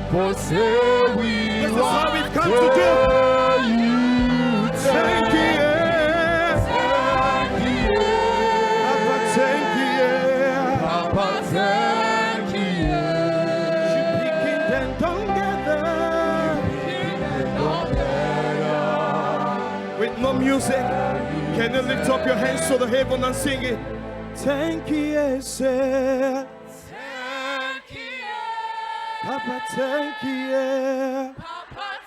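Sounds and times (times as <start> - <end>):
gospel singing with instruments: 0.0 - 32.0.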